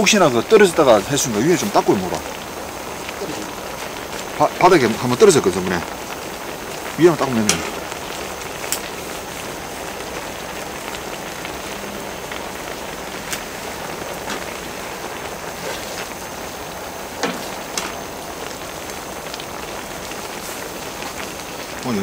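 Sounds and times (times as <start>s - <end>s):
stew bubbling and sizzling: 0.0s - 22.0s.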